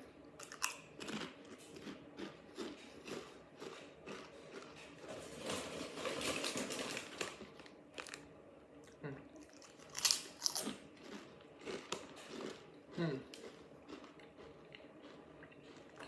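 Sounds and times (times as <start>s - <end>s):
chewing crisp potato chips: 0.3s - 16.0s.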